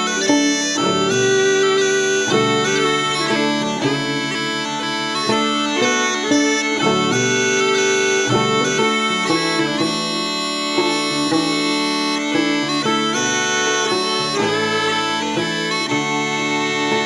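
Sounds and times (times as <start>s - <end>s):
banjo: 0.0s - 17.0s
fiddle: 0.0s - 17.0s
smallpipes melody over drone: 0.0s - 17.0s.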